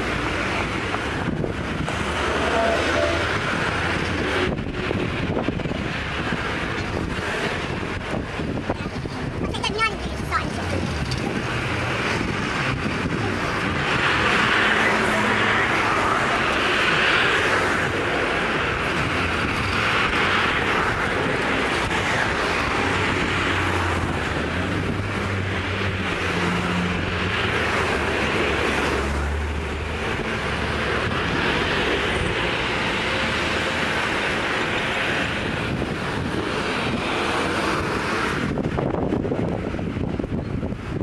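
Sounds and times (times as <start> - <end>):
cars driving past: 0.0 - 41.0.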